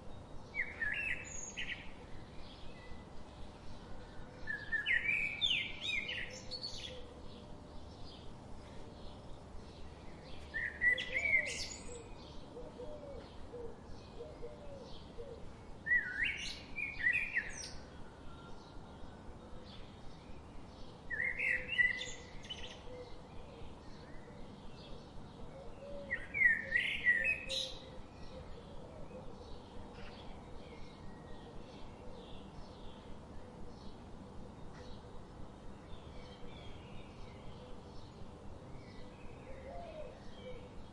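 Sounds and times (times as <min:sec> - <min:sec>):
bird song phrase: 0:00.1 - 0:40.9.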